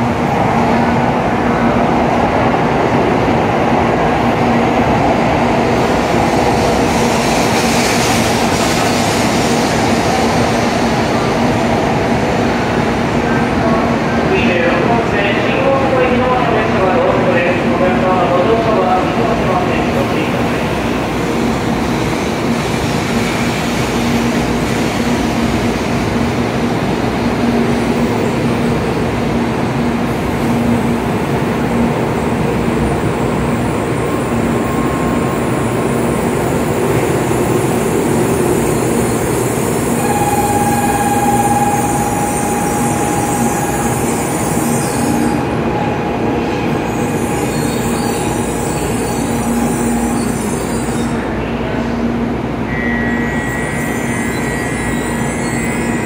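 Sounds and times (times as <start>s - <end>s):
train running and wheel noise: 0.0s - 56.0s
train whine: 0.0s - 56.0s.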